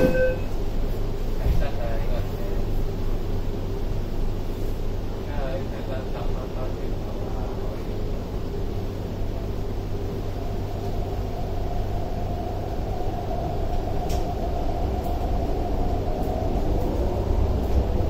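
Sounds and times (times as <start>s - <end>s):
train cabin low rumble: 0.0s - 18.0s.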